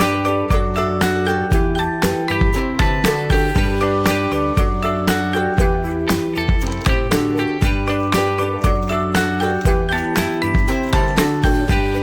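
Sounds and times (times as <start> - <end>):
upbeat guitar music with beat: 0.0 - 12.0.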